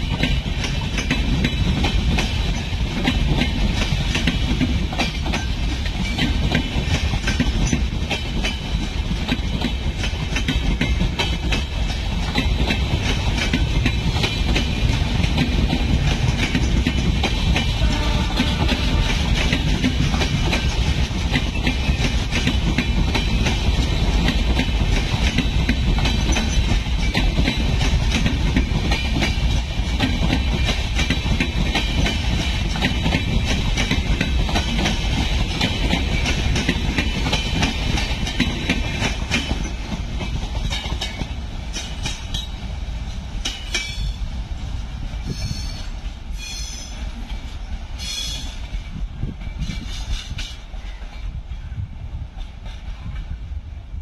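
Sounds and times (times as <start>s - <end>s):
train wheels clattering over rail joints: 0.0s - 44.2s, 45.0s - 51.4s, 52.3s - 53.3s
low rumble of train coaches: 0.0s - 54.0s.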